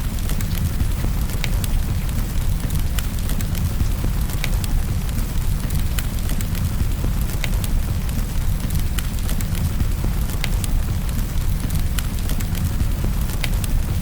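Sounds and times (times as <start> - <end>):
rain: 0.0 - 14.0
wood fire crackling: 0.0 - 14.0.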